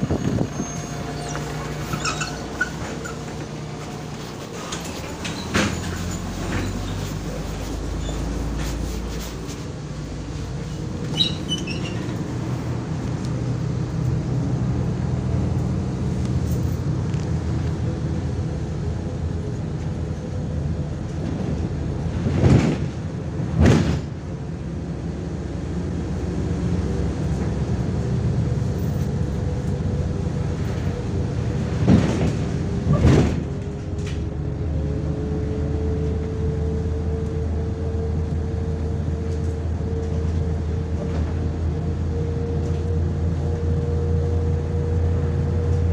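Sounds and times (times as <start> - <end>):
bus engine drone: 0.0 - 45.9
road rumble: 0.0 - 45.9.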